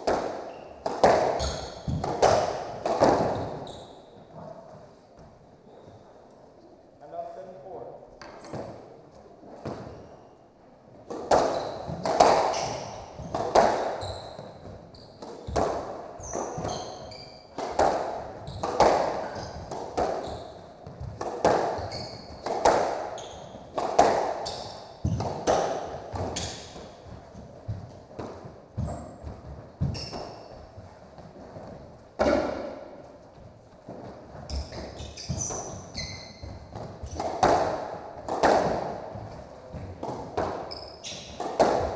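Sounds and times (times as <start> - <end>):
squash ball cracking off racquets: 0.0 - 3.6, 11.0 - 33.1, 33.8 - 41.9
sneakers squeaking on hardwood: 0.3 - 6.1, 9.6 - 10.4, 11.3 - 41.9.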